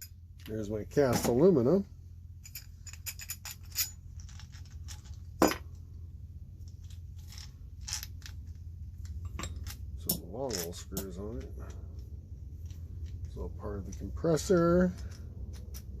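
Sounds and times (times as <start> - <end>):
low steady hum: 0.0 - 16.0
small metal parts clinking: 2.4 - 5.8, 6.6 - 16.0.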